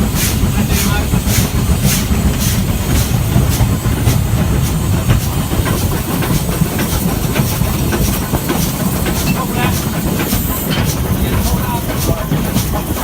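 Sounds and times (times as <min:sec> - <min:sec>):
steam locomotive rumbling and hissing: 0:00.0 - 0:13.0.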